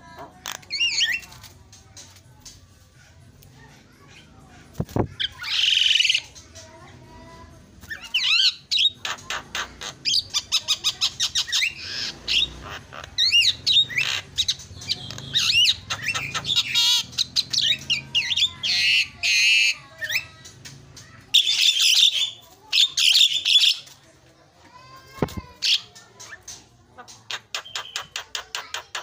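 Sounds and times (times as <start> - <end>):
myna bird singing: 0.1 - 2.2, 5.1 - 6.9, 7.8 - 24.0, 25.2 - 29.0.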